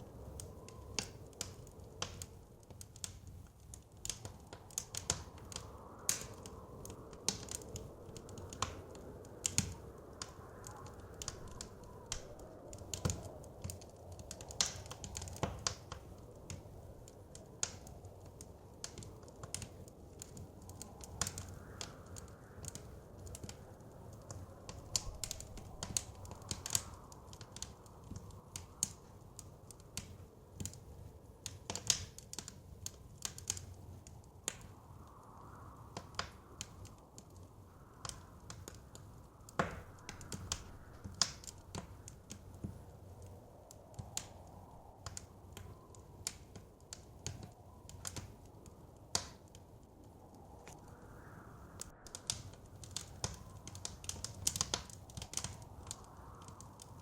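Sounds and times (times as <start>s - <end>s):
soft blizzard wind: 0.0s - 57.0s
wood fire crackling and popping: 0.0s - 57.0s.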